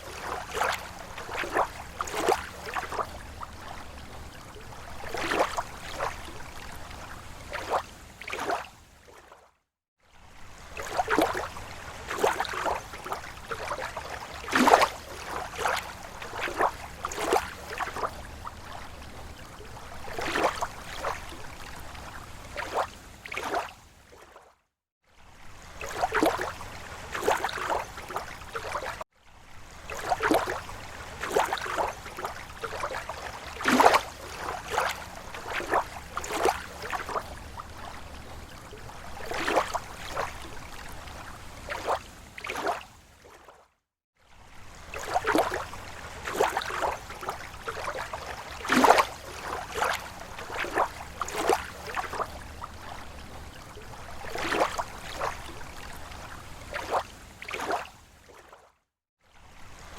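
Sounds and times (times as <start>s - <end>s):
water lapping against shore: 0.0s - 59.9s.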